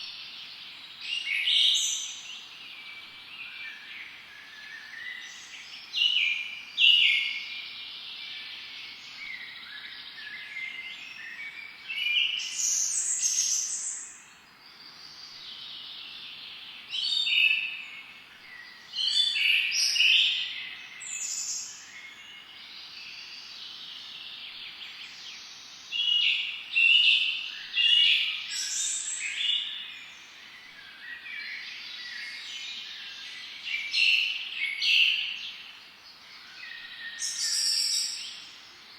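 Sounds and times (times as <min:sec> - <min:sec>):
background bird calls: 0:00.0 - 0:38.9
birds singing and chirping: 0:00.0 - 0:38.9.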